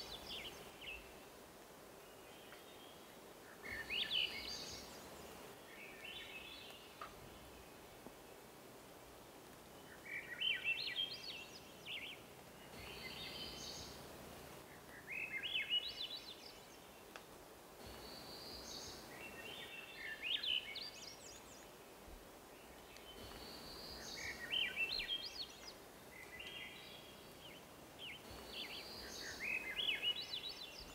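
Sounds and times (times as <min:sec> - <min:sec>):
faint hiss of woods: 0:00.0 - 0:30.9
songbird singing: 0:00.0 - 0:30.9.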